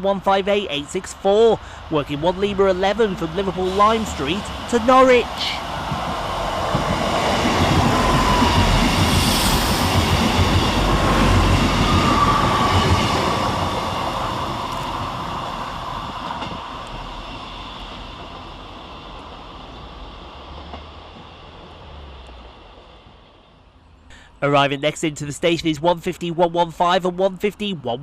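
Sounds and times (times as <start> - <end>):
diesel train passing: 0.0 - 28.0
wheels on rails: 0.2 - 23.1.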